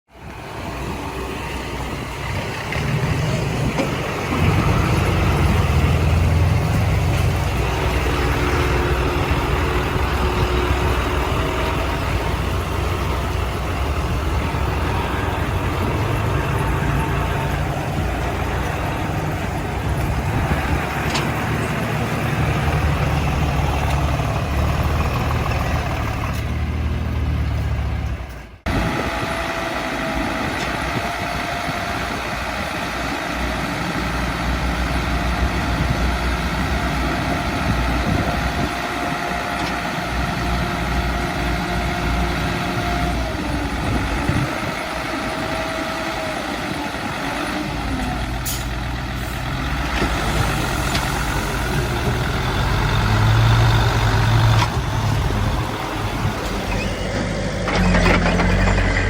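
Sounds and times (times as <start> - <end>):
heavy diesel machinery rumbling: 0.1 - 59.0.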